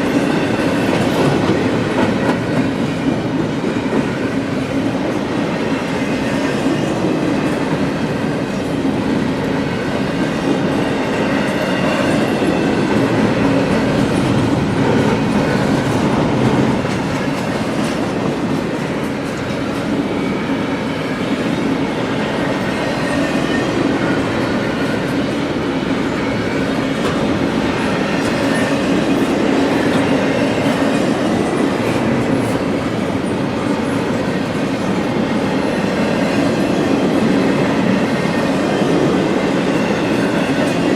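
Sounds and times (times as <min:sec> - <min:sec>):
freight train wheels on rail: 0:00.0 - 0:40.9.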